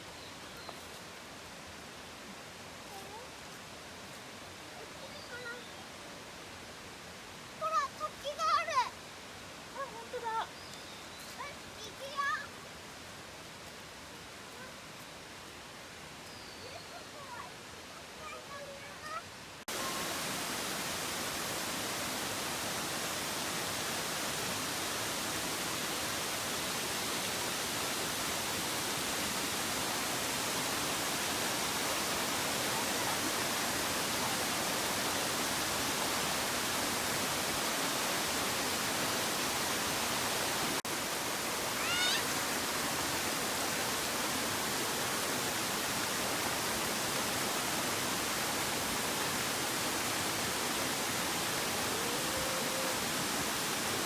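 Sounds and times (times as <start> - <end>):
waterfall rushing: 0.0 - 10.6, 11.2 - 54.0.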